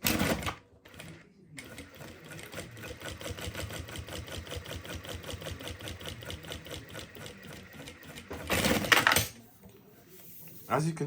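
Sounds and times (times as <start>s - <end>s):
sewing machine clatter: 0.0s - 9.4s.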